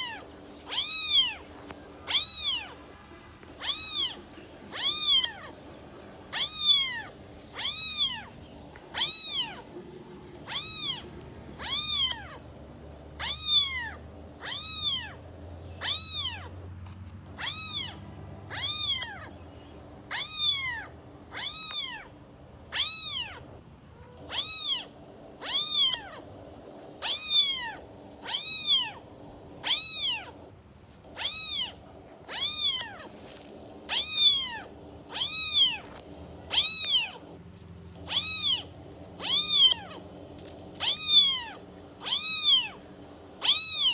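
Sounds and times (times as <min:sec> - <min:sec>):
cat meowing: 0:00.0 - 0:05.6, 0:06.3 - 0:12.5, 0:13.2 - 0:16.7, 0:17.3 - 0:19.4, 0:20.1 - 0:37.4, 0:38.0 - 0:43.9.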